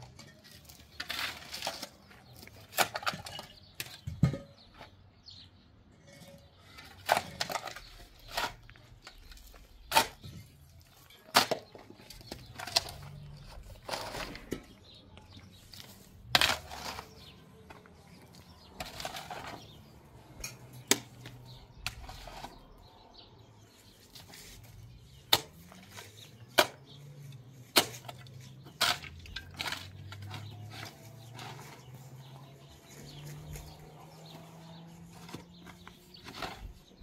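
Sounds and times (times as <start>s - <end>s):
scraping and rustling: 6.0s - 37.0s.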